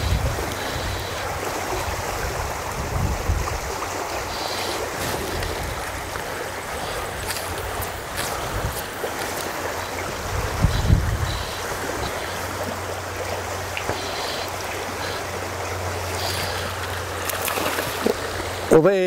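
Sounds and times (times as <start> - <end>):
river water rushing over riffle: 0.0 - 19.0.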